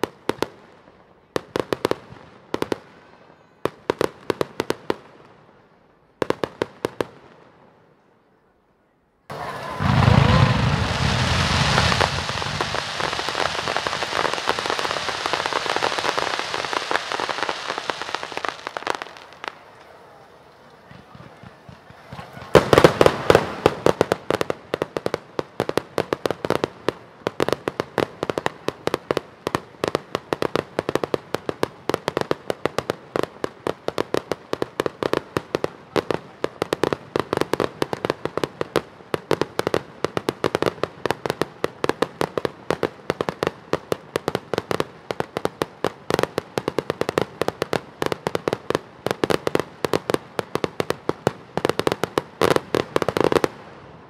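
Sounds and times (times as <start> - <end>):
fireworks banging and crackling: 0.0 - 8.0, 9.3 - 54.0.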